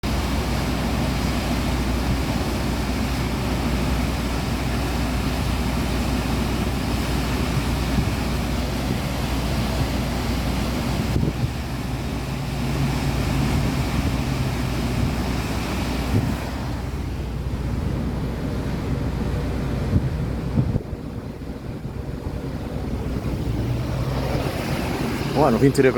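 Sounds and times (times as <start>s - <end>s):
river rushing: 0.0s - 25.9s
wind buffeting microphone: 0.0s - 25.9s.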